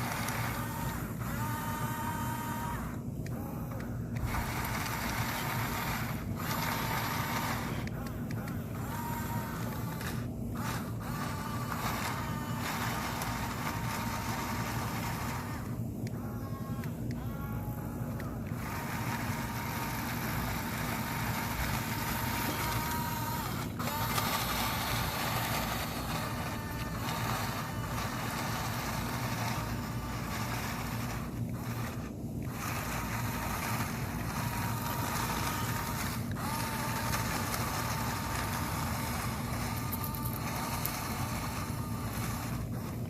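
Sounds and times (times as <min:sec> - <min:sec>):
electric motors whining: 0:00.0 - 0:43.0
steady low hum: 0:00.0 - 0:43.0.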